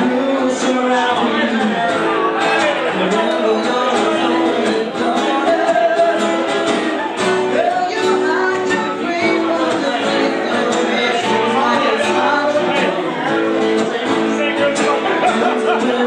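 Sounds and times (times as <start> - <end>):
guitar: 0.0 - 16.0
live band playing: 0.0 - 16.0.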